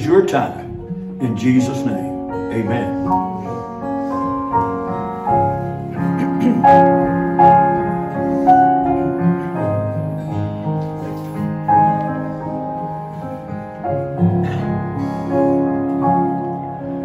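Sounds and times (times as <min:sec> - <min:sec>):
acoustic guitar chords: 0:00.0 - 0:17.0
piano playing a slow hymn: 0:00.0 - 0:17.0.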